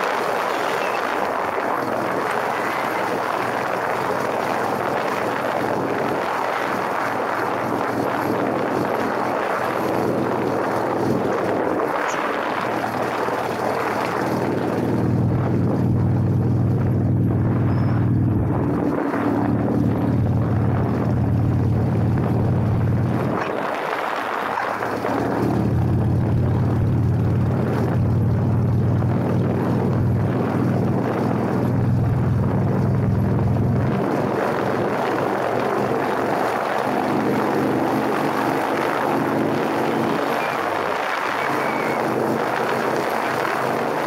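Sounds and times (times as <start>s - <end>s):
wind noise on microphone: 0.0s - 44.0s.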